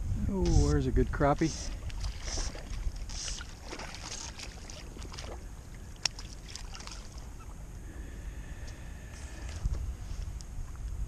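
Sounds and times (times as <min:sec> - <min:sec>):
steady low rumble: 0:00.0 - 0:11.0
water splashing and lapping: 0:00.3 - 0:10.9.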